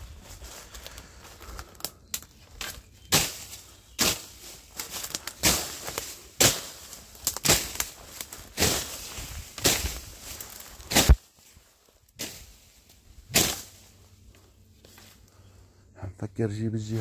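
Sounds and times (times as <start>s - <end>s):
footsteps through rustling undergrowth: 0.0s - 15.6s.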